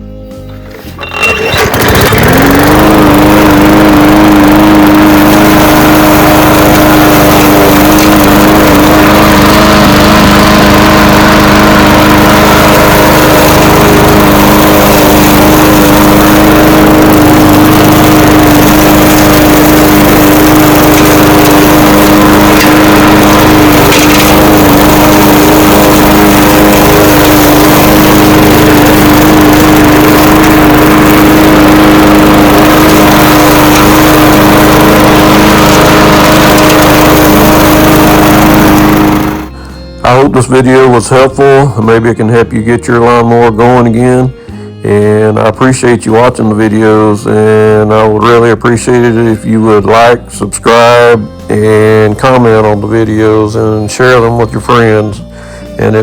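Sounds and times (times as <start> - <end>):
lawnmower engine running: 0.0 - 56.0.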